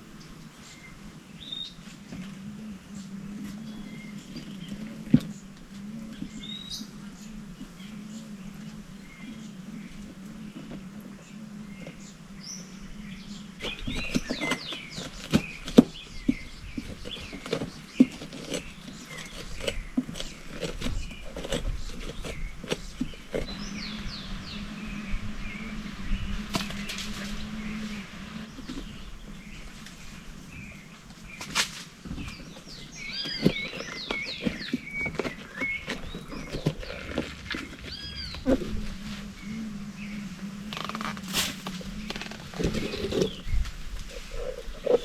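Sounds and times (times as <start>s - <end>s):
birds chirping: 0.0s - 45.0s
steady low hum: 0.0s - 45.0s.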